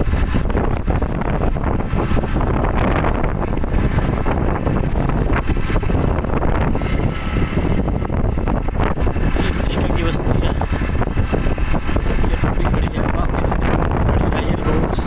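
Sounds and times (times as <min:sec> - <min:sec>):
vehicle low rumble: 0:00.0 - 0:15.0
wind buffeting microphone: 0:00.0 - 0:15.0.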